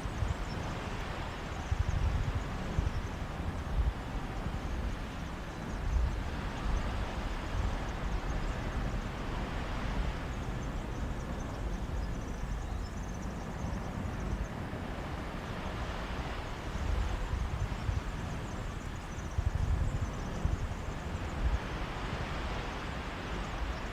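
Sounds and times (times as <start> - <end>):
sea waves washing on beach: 0.0 - 12.0, 13.8 - 23.9.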